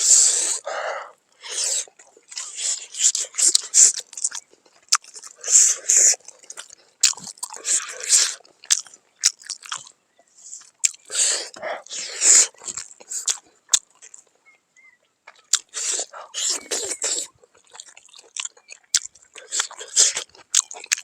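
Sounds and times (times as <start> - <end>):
close-up chewing and crunching: 0.0 - 21.0.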